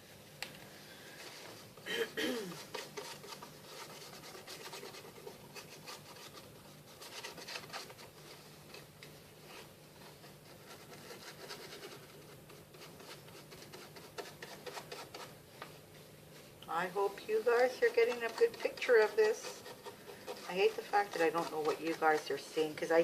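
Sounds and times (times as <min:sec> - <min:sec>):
paint scraping on cardboard: 0:02.5 - 0:23.0.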